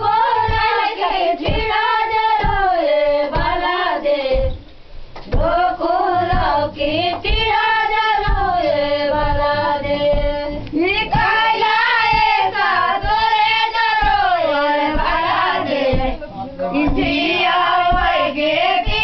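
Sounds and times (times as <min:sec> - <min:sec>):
women singing together: 0:00.0 - 0:19.0.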